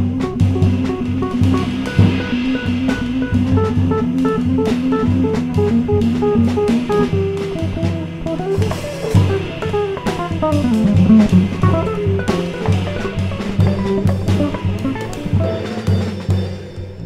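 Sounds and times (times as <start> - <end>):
electric guitar solo: 0.0 - 15.8
bass: 0.0 - 17.0
drum kit with cymbals: 0.0 - 17.0.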